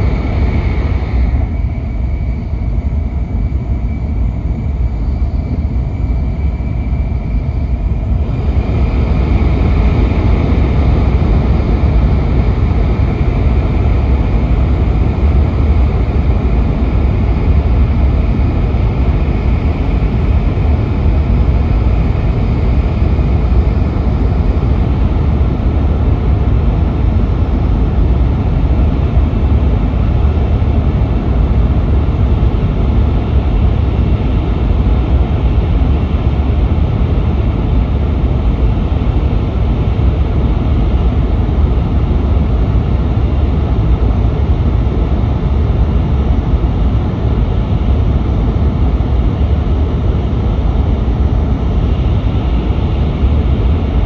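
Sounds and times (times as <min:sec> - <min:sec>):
train rumble in tunnel: 0:00.0 - 0:54.0.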